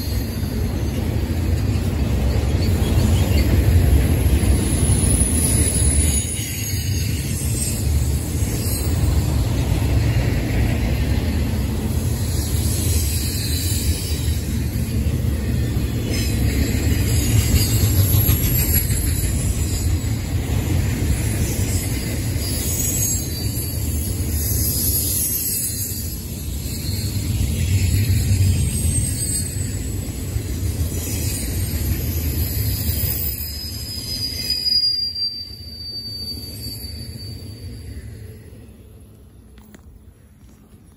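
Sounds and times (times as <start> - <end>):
wheel squeals: 0.0 - 9.7, 12.1 - 38.3
freight train wheels rumbling on rail: 0.0 - 40.9.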